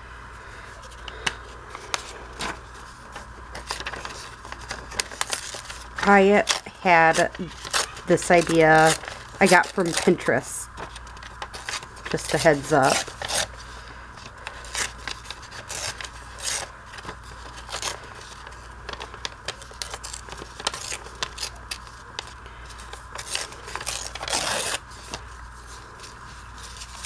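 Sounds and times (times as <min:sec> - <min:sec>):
paper rustling: 0:00.8 - 0:27.0
paper tearing: 0:01.8 - 0:13.6, 0:14.5 - 0:27.0.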